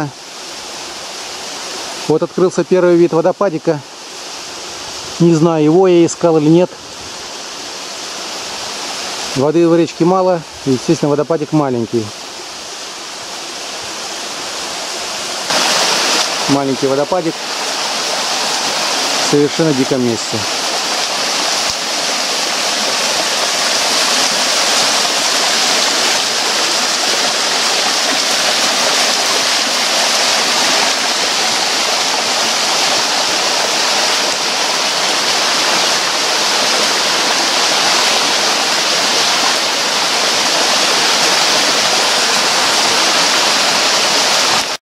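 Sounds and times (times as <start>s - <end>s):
small waterfall splashing: 0.0s - 44.8s.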